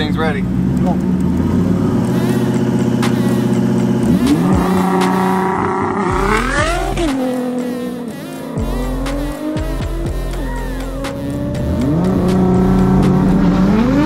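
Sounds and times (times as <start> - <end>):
engines accelerating hard: 0.0 - 14.0.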